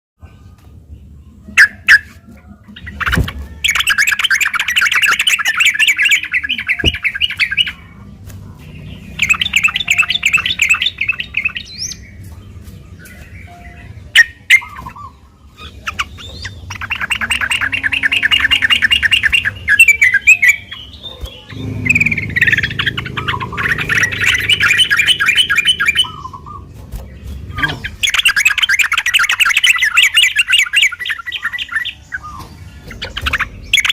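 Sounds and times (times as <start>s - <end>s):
bird bubbly chattering song: 2.8s - 8.0s, 8.8s - 12.2s, 13.1s - 33.9s.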